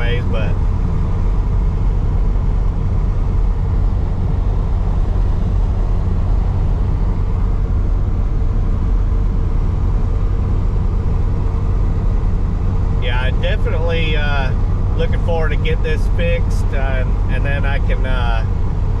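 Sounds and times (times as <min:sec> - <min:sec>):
low engine drone: 0:00.0 - 0:19.0
road rumble: 0:00.0 - 0:19.0.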